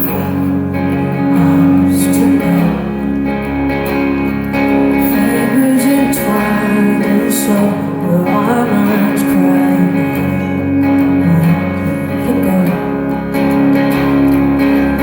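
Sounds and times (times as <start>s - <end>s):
woman singing: 0.0s - 3.5s, 5.0s - 13.7s
guitar accompaniment: 0.0s - 15.0s.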